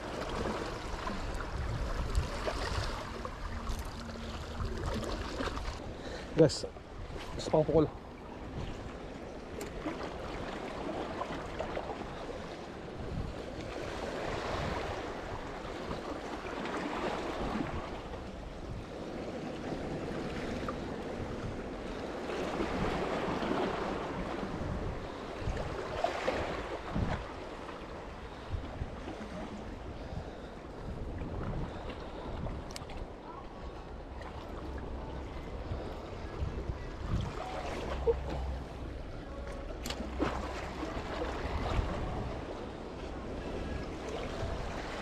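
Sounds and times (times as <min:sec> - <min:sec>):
wind rumbling on microphone: 0:00.0 - 0:06.0, 0:06.8 - 0:45.0.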